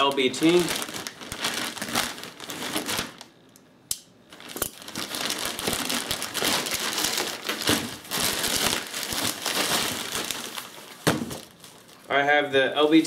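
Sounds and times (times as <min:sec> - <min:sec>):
plastic mailer bag crinkling: 0:00.0 - 0:03.3, 0:04.3 - 0:13.0.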